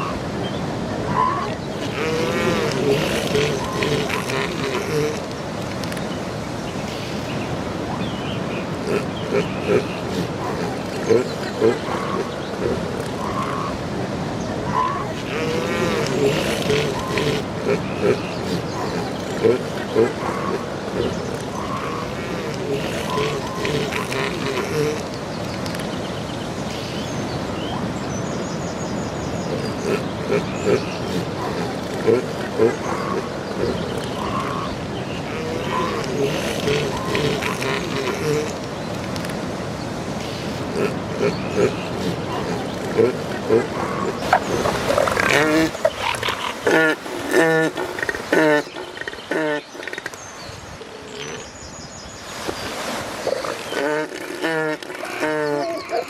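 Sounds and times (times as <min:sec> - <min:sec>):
elephant seals calling: 0:00.0 - 0:06.2, 0:06.8 - 0:26.0, 0:29.4 - 0:50.2, 0:53.1 - 0:56.0
surf rushing: 0:00.0 - 0:48.9
wind: 0:00.0 - 0:56.0.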